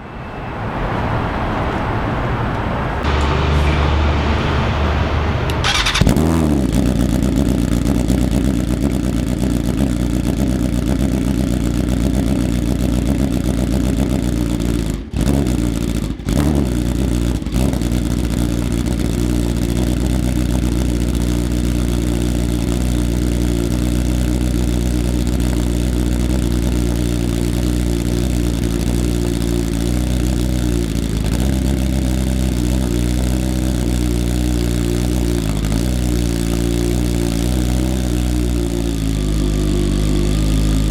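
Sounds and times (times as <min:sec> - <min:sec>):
motorcycle engine idling: 0:02.5 - 0:40.9.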